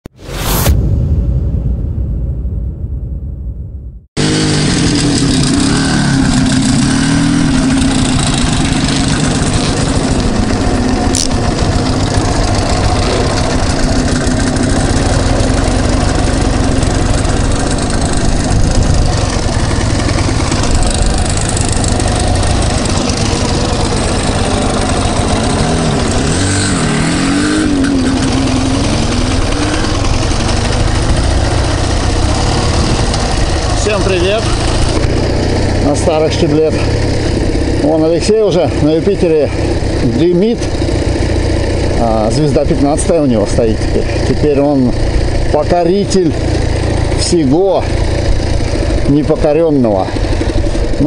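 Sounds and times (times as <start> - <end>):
motorcycle engine pulling away: 4.2 - 51.0
two-stroke motorcycle running: 4.2 - 51.0.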